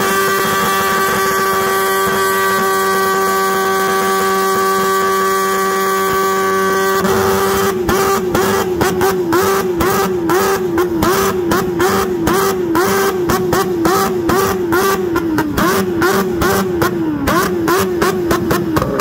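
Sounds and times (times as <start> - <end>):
two-stroke engine at full throttle: 0.0 - 19.0.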